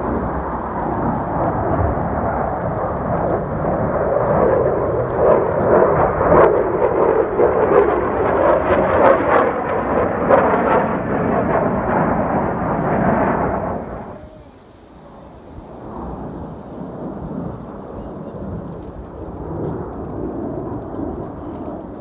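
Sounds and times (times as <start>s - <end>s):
jet planes roaring overhead: 0.0s - 22.0s.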